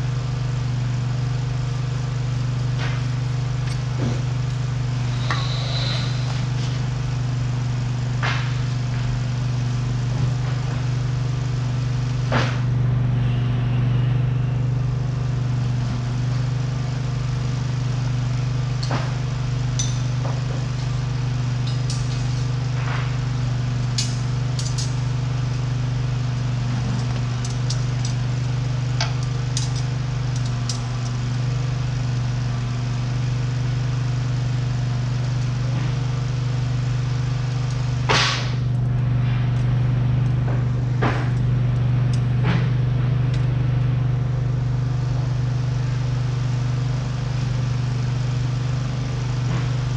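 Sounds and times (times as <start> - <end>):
low machine hum: 0.0 - 49.9.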